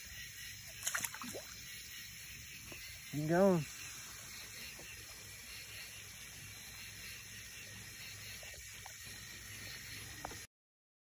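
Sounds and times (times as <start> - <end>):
outdoor background hiss: 0.0 - 10.5.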